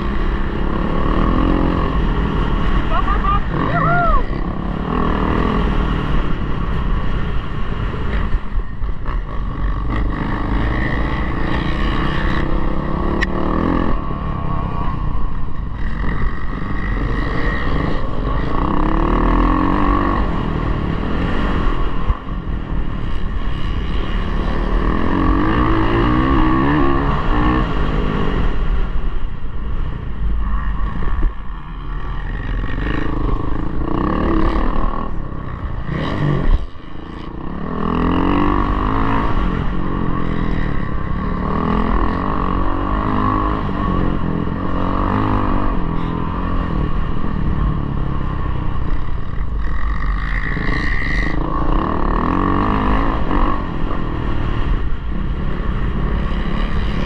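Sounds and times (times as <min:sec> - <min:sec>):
dirt bike engine revving: 0:00.0 - 0:28.8, 0:30.5 - 0:57.0.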